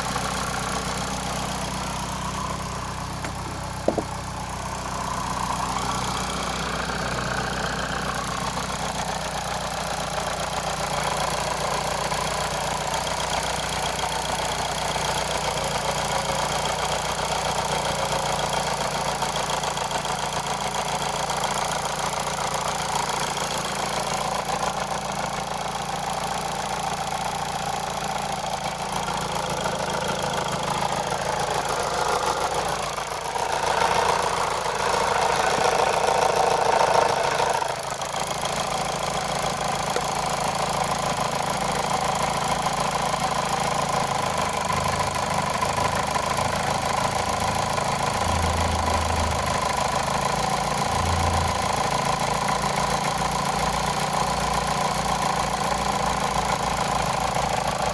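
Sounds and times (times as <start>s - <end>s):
car engine idling: 0.0s - 57.9s
engine knocking: 0.0s - 57.9s.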